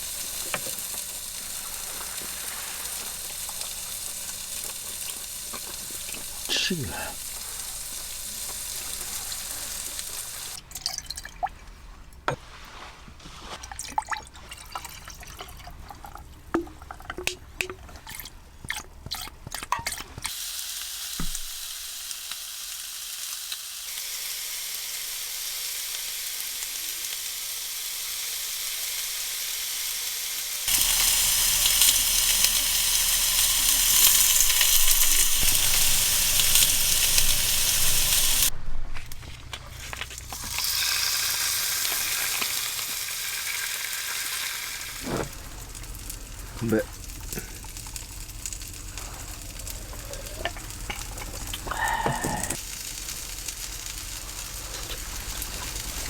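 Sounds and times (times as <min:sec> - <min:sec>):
hot pan sizzling: 0:00.0 - 0:10.6, 0:20.2 - 0:56.0.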